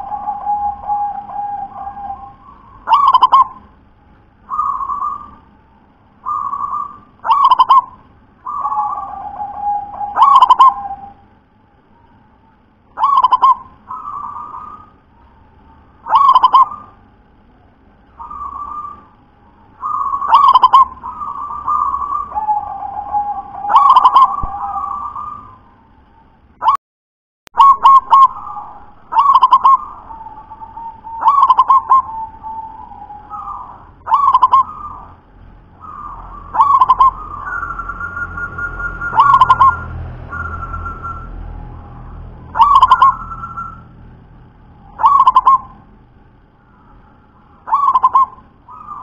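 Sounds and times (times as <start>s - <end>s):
dove cooing: 0.0s - 3.7s, 4.5s - 5.5s, 6.2s - 11.2s, 13.0s - 15.4s, 16.0s - 17.1s, 18.2s - 25.8s, 27.6s - 35.2s, 35.8s - 44.0s, 44.8s - 45.9s, 46.7s - 49.0s.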